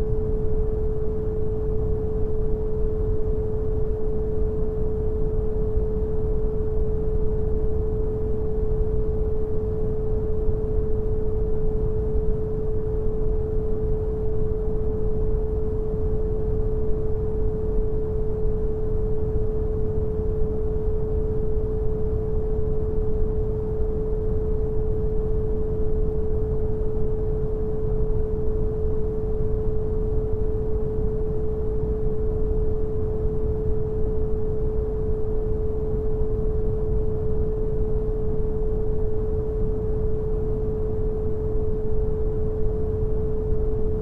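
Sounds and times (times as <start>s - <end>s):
pure steady tone: 0.0s - 44.0s.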